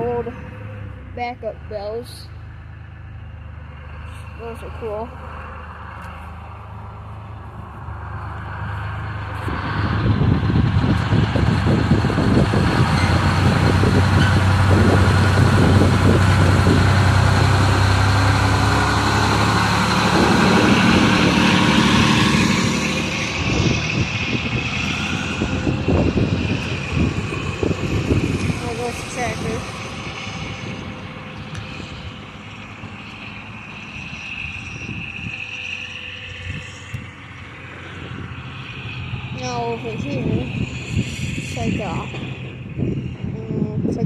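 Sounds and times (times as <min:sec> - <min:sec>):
truck diesel engine rumbling: 0:00.0 - 0:44.0.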